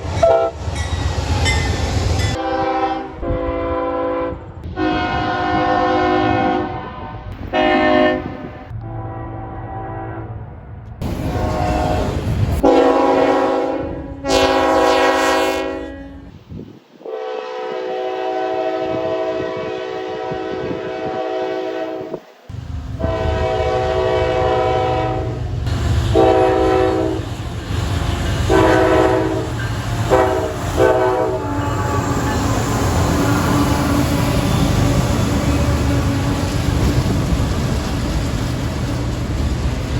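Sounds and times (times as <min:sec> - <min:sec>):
train rumbling: 0:00.0 - 0:39.9
locomotive air horn blasts: 0:00.2 - 0:00.6, 0:02.3 - 0:10.3, 0:11.0 - 0:16.4, 0:17.0 - 0:22.2, 0:23.0 - 0:36.5.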